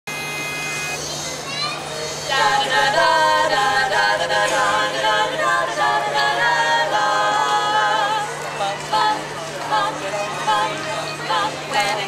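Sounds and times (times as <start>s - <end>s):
women singing in harmony: 2.2s - 12.0s.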